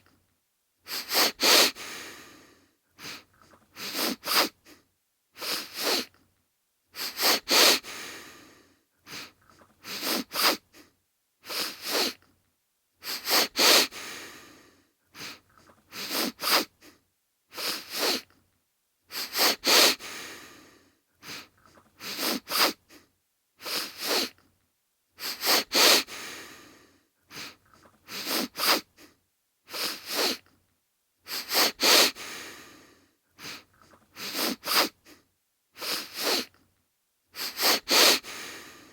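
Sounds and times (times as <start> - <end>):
man sniffling: 0.8 - 6.1, 6.9 - 12.2, 13.0 - 18.2, 19.1 - 24.4, 25.2 - 30.4, 31.2 - 36.5, 37.3 - 38.9.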